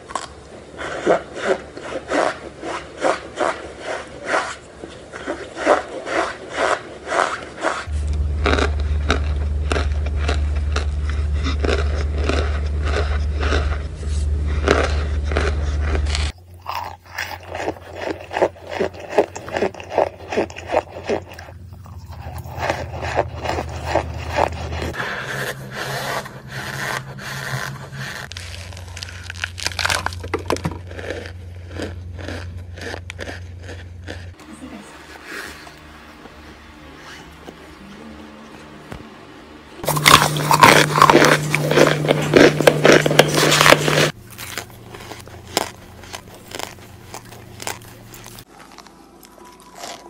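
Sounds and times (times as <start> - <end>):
cornstarch crunching and scraping: 0.0 - 36.2, 39.8 - 50.0
steady low hum: 0.0 - 49.8.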